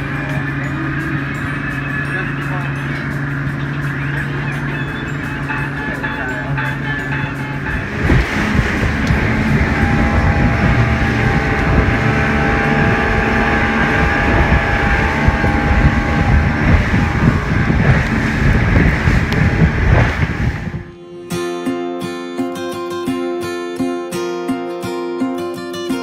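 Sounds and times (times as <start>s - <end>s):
speedboat engine running: 0.0s - 21.0s
water rushing past hull: 0.0s - 21.0s
wind buffeting microphone: 0.0s - 21.0s.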